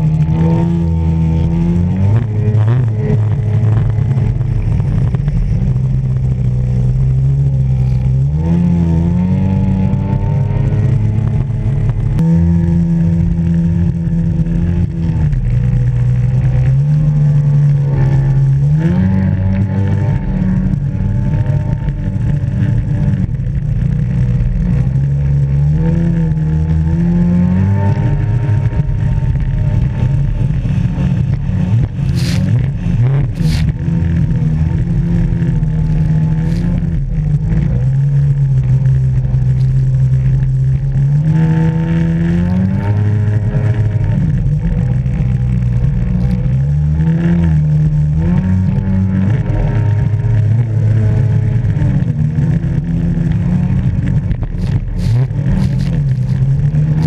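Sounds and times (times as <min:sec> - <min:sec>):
jet ski engine running: 0:00.0 - 0:26.9, 0:27.5 - 0:42.1, 0:43.0 - 0:57.0.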